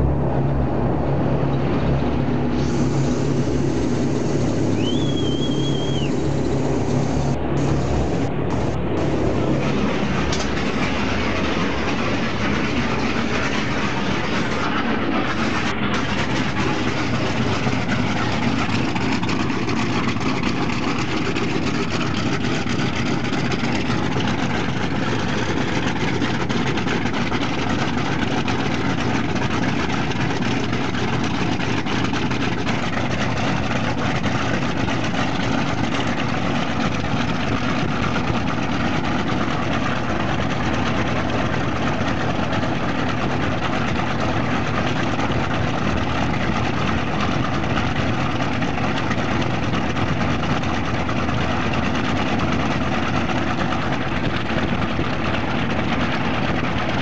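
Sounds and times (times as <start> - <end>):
radial piston engine running: 2.6 - 57.0.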